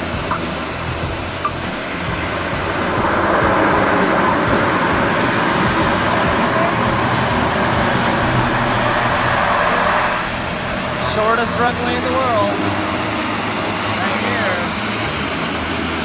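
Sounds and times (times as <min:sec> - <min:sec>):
turboprop plane engines running: 0:00.0 - 0:16.0.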